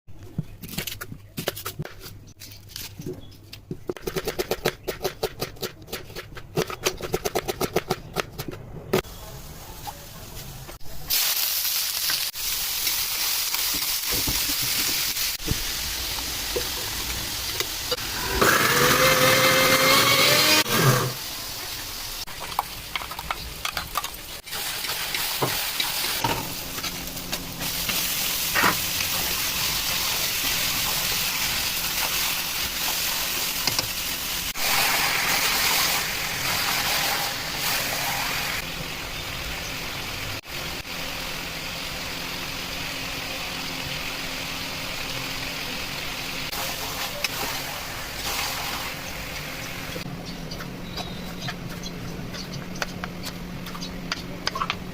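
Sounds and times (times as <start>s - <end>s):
food frying and sizzling: 8.9s - 54.9s.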